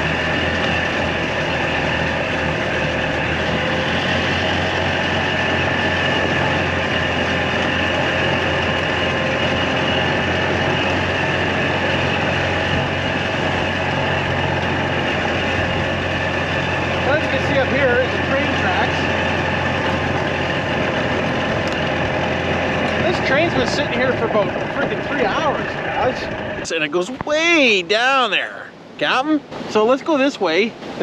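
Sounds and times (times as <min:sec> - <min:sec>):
golf cart motor running: 0:00.0 - 0:28.5.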